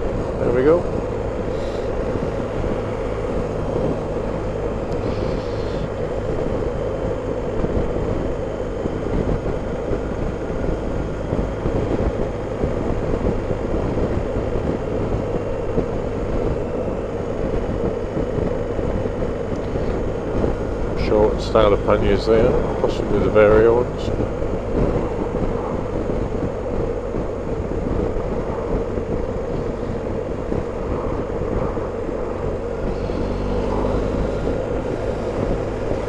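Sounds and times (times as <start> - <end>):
motorcycle engine cruising: 0.0 - 36.0
wind rushing over microphone: 0.0 - 36.0.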